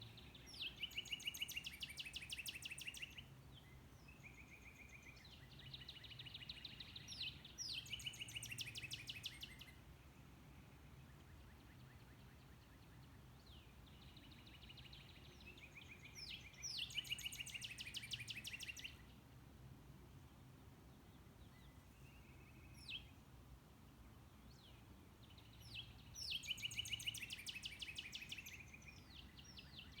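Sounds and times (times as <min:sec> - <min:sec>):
songbird trilling song: 0:00.0 - 0:09.8, 0:10.6 - 0:19.2, 0:21.0 - 0:23.3, 0:24.0 - 0:30.0.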